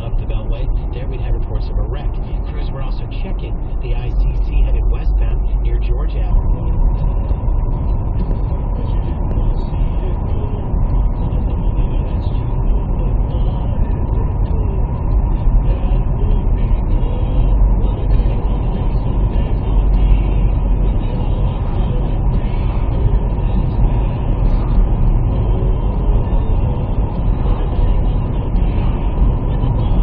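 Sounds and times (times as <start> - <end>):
faint steady hum: 0.0 - 30.0
vehicle low rumble: 0.0 - 30.0.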